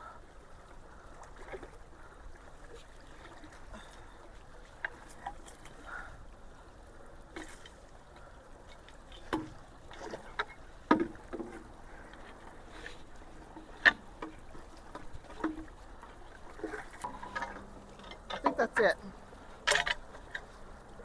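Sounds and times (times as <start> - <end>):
creek water rushing into culvert: 0.0 - 21.0
water splashes: 0.0 - 21.0.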